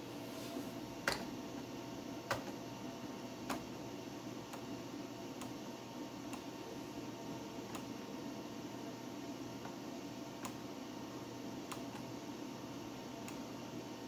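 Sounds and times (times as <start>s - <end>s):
computer hum: 0.0s - 14.0s.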